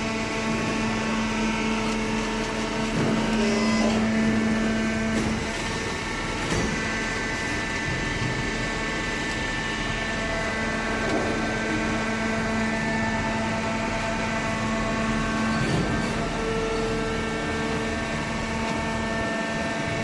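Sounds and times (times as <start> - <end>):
baler machine hum: 0.0 - 20.0
constant machine whine: 0.0 - 20.0.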